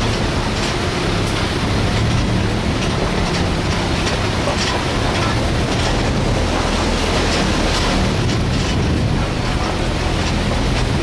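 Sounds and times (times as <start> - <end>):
car engine drone: 0.0 - 11.0
road and tyre noise: 0.0 - 11.0.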